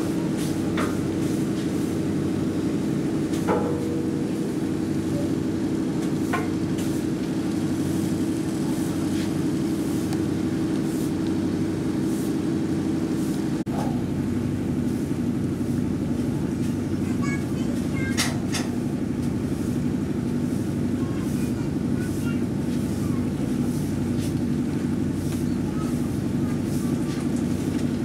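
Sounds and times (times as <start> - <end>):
boat diesel engine droning: 0.0 - 28.0.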